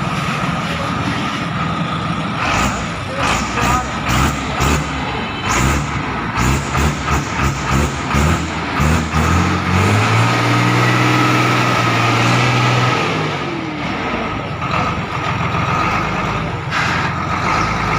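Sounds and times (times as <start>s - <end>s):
tractor diesel engine revving: 0.0s - 17.9s.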